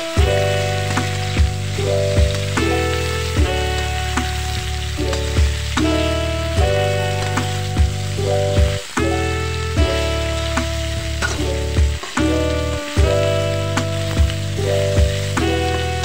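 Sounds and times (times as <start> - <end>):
background music with a beat: 0.0 - 16.0
food sizzling in a wok: 0.0 - 16.0.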